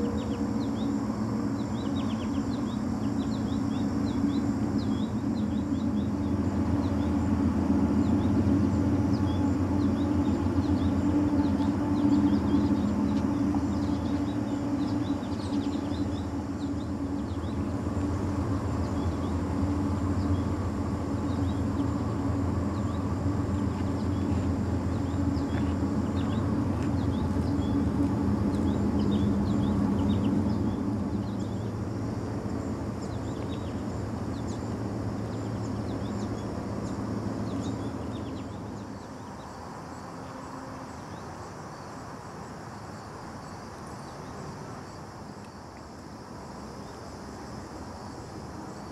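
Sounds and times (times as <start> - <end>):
distant road traffic rumble: 0.0 - 48.9.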